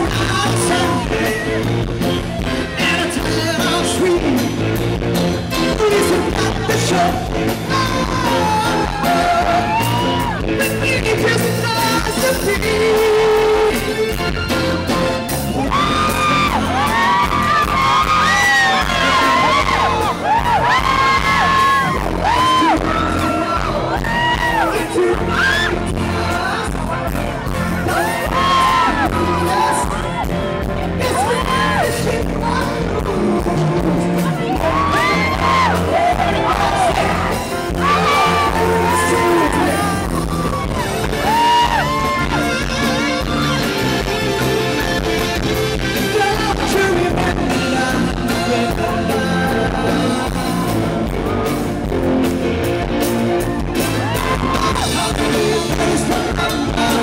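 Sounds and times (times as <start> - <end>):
fans screaming and whooping: 0.0 - 4.2, 5.7 - 13.0, 14.8 - 57.0
rock band playing live: 0.0 - 57.0.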